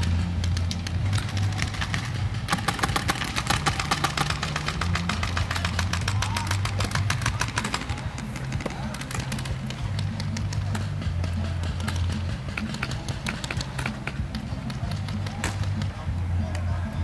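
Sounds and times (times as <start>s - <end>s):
paintball markers firing rapidly: 0.0s - 17.0s.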